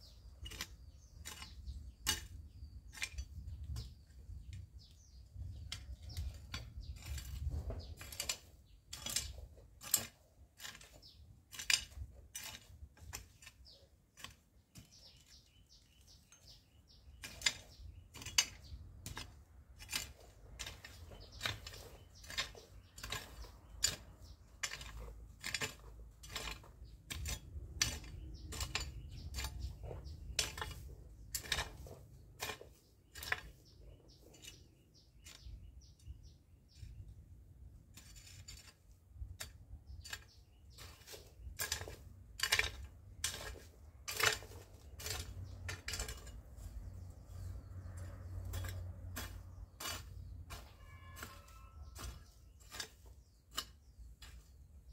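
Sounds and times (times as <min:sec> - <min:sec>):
garden tool scraping soil: 0:00.0 - 0:54.9.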